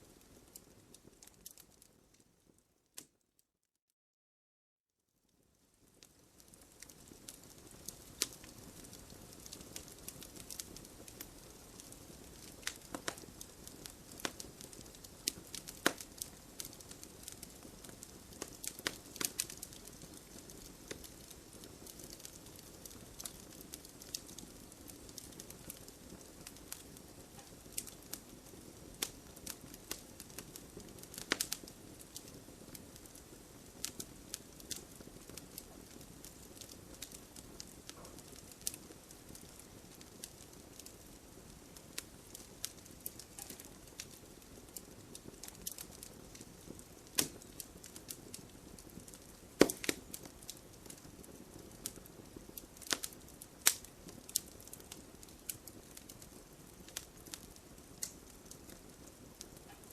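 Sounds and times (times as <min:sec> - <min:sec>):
burning wood crackling and popping: 0:00.0 - 0:02.2, 0:05.6 - 0:59.9.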